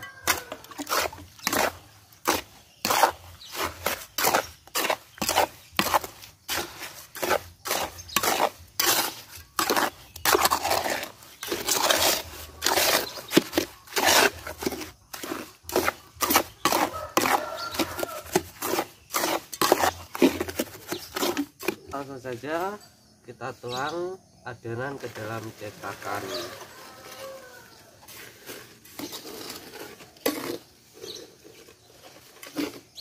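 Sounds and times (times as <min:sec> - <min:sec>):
trowel scraping mortar in metal basin: 0:00.0 - 0:22.4, 0:24.9 - 0:33.0.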